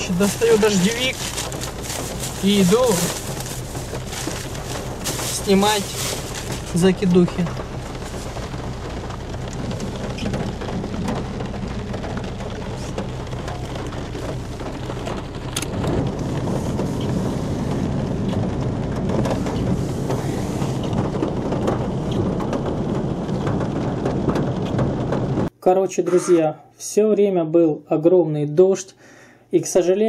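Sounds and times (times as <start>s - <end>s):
heavy rain on a car: 0.0s - 25.5s.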